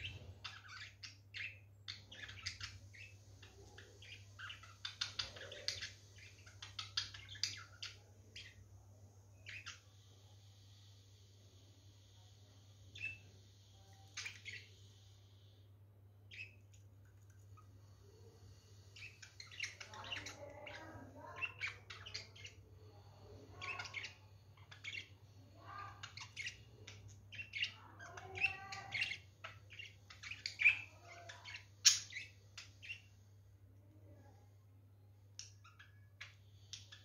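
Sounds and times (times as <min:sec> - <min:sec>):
budgies chirping and chattering: 0:00.0 - 0:15.6, 0:16.3 - 0:33.3, 0:35.4 - 0:37.0.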